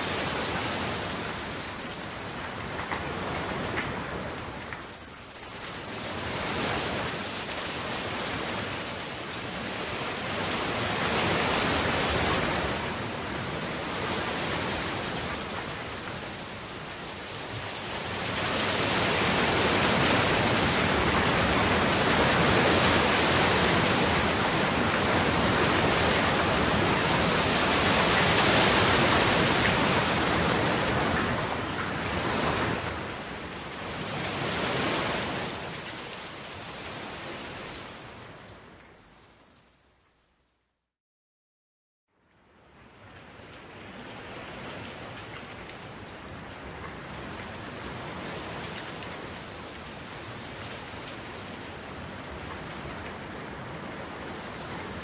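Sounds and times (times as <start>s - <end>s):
heavy rain: 0.0s - 39.1s, 42.6s - 55.0s.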